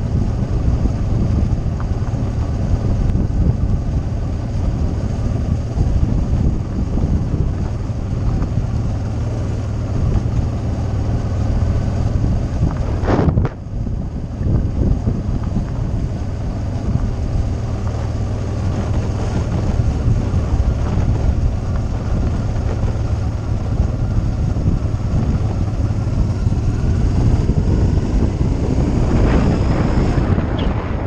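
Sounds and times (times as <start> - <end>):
motorcycle engine rumble: 0.0 - 31.0
wind noise on microphone: 0.0 - 31.0.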